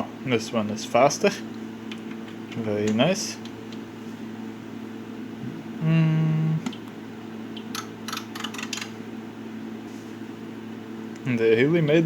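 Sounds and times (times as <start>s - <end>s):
cooling fan hum: 0.0s - 12.0s.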